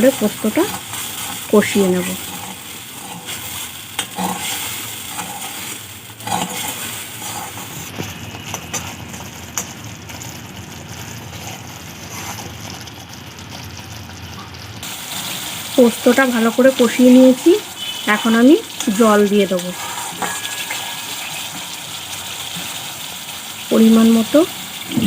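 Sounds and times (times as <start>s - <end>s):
paste sizzling in hot oil: 0.0s - 25.0s.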